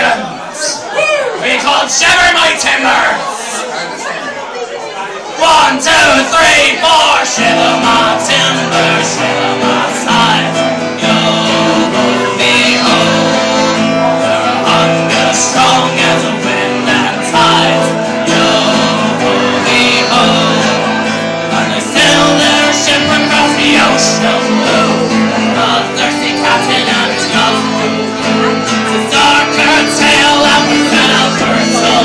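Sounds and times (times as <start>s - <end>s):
acoustic guitar strumming: 5.4s - 32.0s
person singing: 5.4s - 32.0s
accordion chords: 5.7s - 32.0s.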